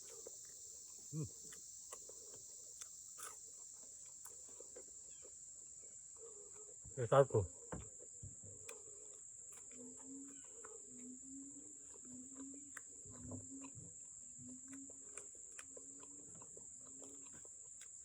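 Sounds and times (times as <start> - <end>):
chewing and mouth clicks: 0.0 - 6.8, 7.8 - 18.0
high-pitched insect trill: 0.0 - 18.0.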